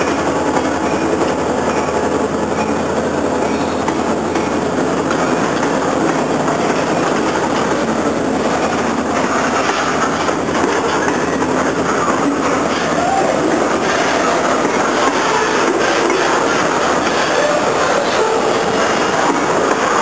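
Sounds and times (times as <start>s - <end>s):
freight cars rolling on rails: 0.0s - 20.0s.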